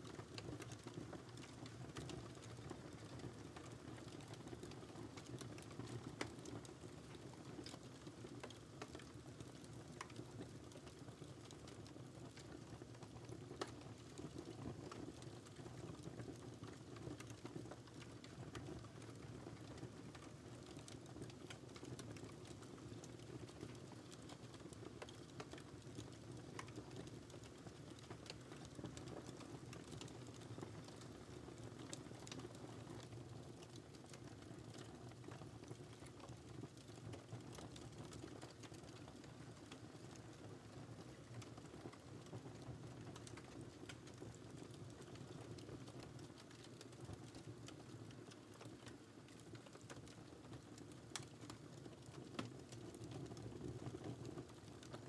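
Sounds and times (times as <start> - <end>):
fire crackling and popping: 0.0 - 55.0
low rumble of burning: 0.0 - 55.0.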